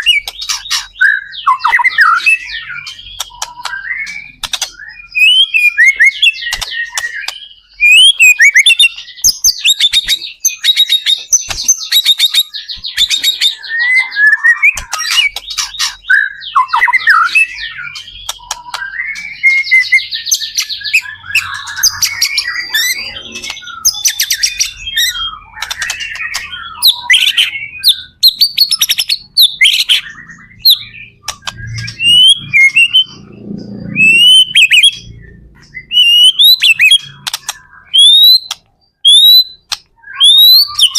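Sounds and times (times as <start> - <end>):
bird song with whistles and trills: 0.0 - 40.9.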